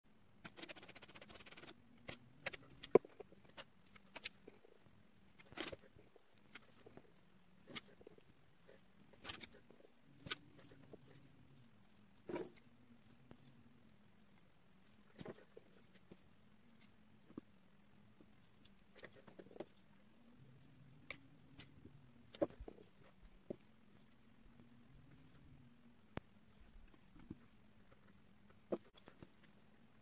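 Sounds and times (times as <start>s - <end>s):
faint low hum: 0.1s - 30.0s.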